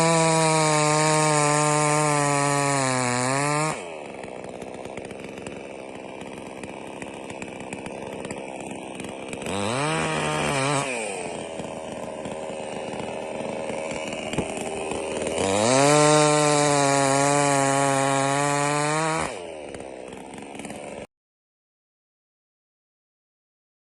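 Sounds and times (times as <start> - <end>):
chainsaw idling and revving: 0.0 - 21.1.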